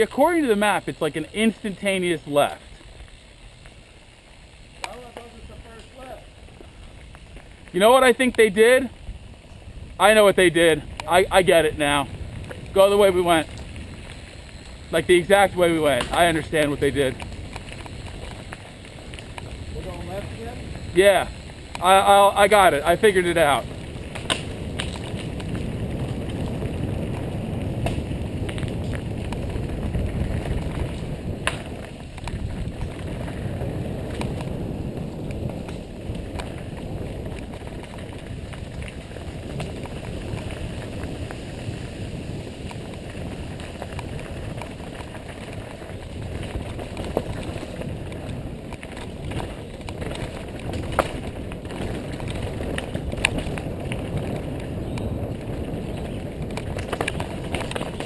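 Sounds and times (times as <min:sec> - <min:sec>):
bike clicks and rattles: 0:00.0 - 0:58.0
bike tyres rumbling on dirt: 0:00.0 - 0:58.0
wind on microphone: 0:05.1 - 0:58.0.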